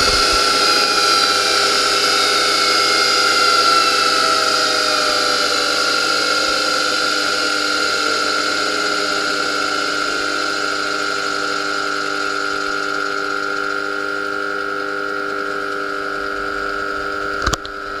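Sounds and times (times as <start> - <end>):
grinder motor whining: 0.0 - 18.0.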